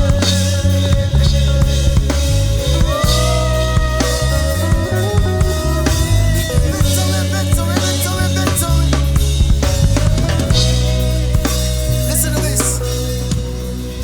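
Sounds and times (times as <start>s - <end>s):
bass: 0.0s - 14.0s
drum kit: 0.0s - 14.0s
sustained gliding melodic lines: 0.0s - 14.0s.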